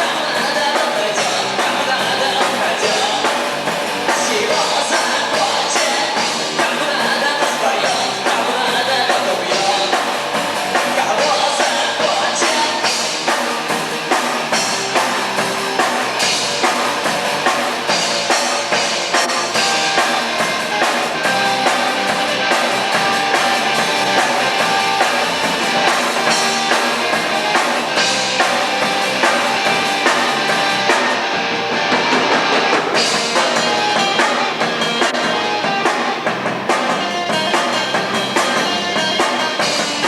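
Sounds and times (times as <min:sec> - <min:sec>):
drum kit beat: 0:00.0 - 0:40.0
rock band playing live: 0:00.0 - 0:40.0.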